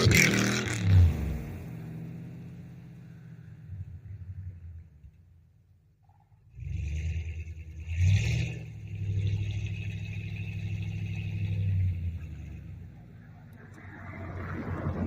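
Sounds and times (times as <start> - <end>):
engine revving at rev limiter: 0.0 - 4.6, 6.5 - 15.0.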